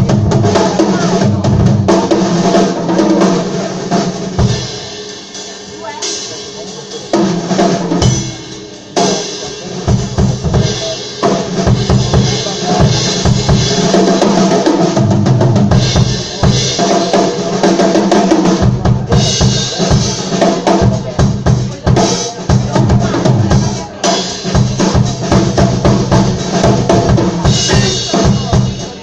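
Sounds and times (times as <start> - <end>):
bass guitar: 0.0 - 4.9, 7.2 - 29.0
drum kit: 0.0 - 29.0
live band playing: 0.0 - 29.0.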